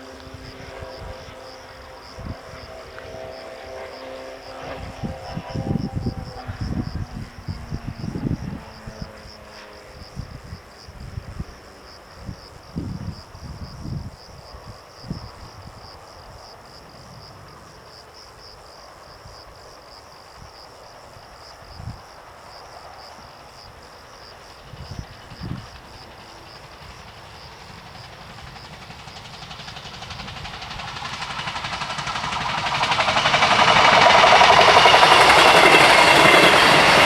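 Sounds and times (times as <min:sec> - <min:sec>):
wind rumbling on microphone: 0:00.0 - 0:19.7, 0:24.5 - 0:37.0
insects chirping: 0:00.0 - 0:37.0.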